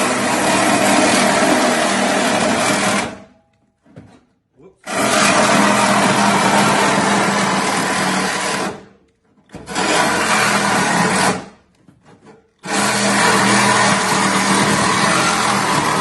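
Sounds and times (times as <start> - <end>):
power saw cutting: 0.0 - 3.3, 4.8 - 11.6, 12.6 - 16.0.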